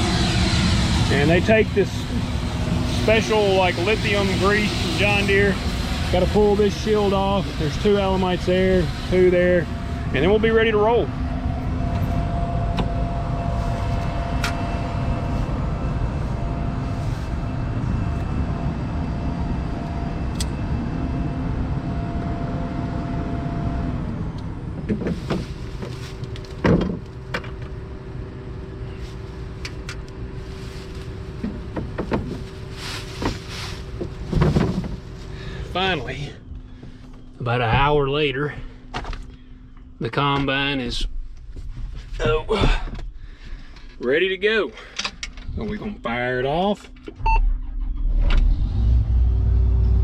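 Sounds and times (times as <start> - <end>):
engine rumbling: 0.0 - 50.0.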